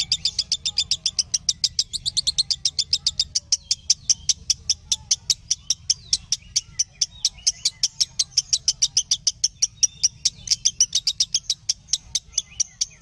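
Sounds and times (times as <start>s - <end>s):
lovebird chattering high chirps: 0.0s - 13.0s.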